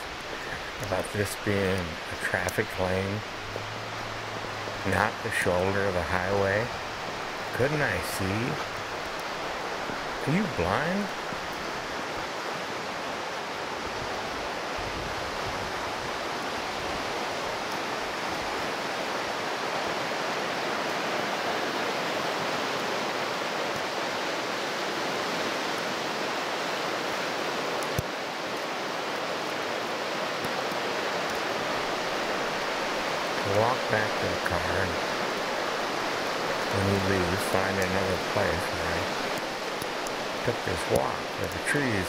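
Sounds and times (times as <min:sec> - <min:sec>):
steady rushing noise: 0:00.0 - 0:42.0.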